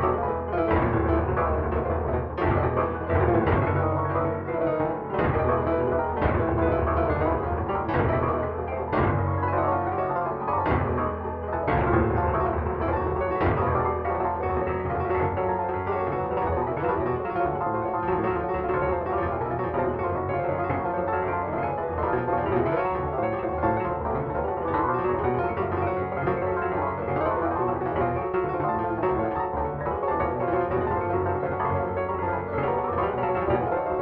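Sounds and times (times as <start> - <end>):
piano melody and chords: 0.0 - 34.0.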